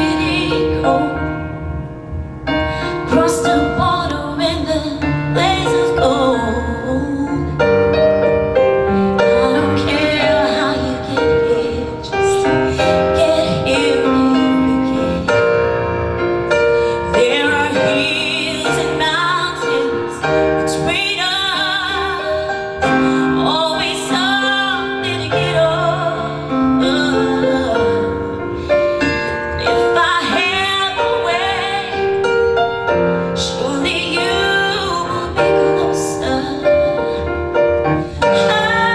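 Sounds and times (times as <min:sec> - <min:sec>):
person singing a ballad: 0:00.0 - 0:01.8, 0:02.5 - 0:38.9
piano accompaniment: 0:00.0 - 0:38.9.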